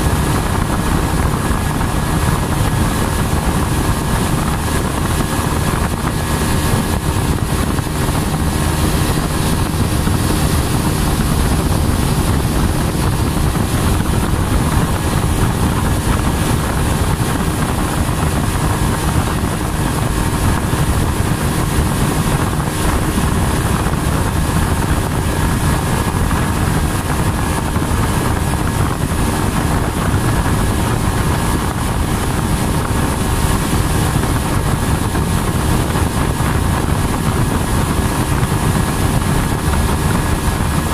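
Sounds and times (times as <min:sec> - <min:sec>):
outboard motor droning: 0:00.0 - 0:40.9.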